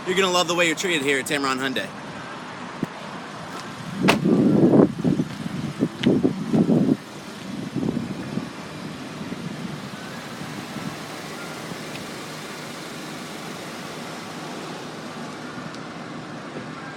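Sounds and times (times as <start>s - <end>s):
road traffic hum: 0.0s - 16.9s.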